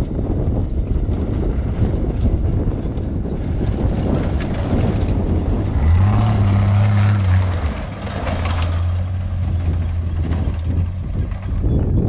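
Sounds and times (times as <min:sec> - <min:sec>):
race vehicle engine rumble: 0:00.0 - 0:12.0.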